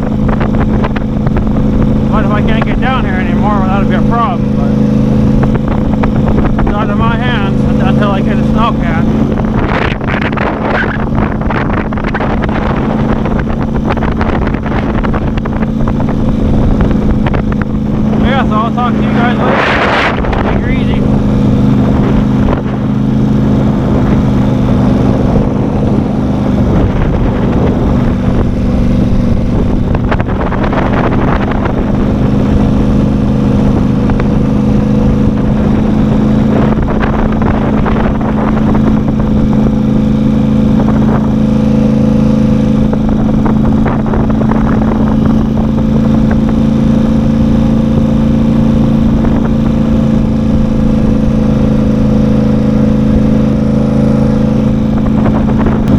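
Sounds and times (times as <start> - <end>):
rushing noise: 0.0 - 47.7
vehicle engine running: 0.0 - 55.9.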